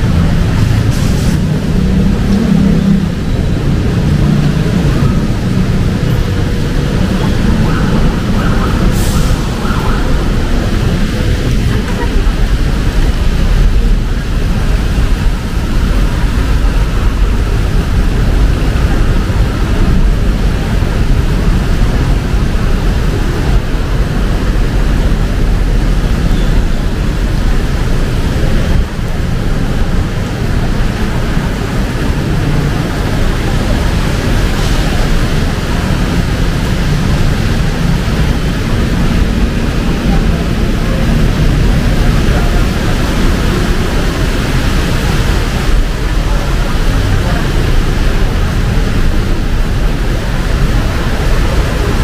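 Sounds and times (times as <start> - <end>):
city traffic rumble: 0.0 - 52.0
heavy rain pouring: 0.0 - 52.0.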